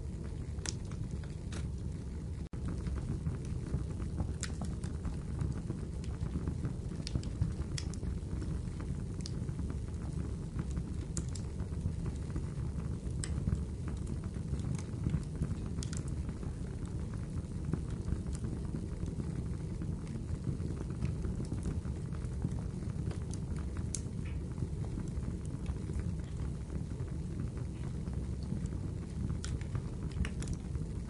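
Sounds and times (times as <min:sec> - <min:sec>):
low rumble of flames: 0:00.0 - 0:31.0
wood crackling and popping: 0:00.0 - 0:31.0.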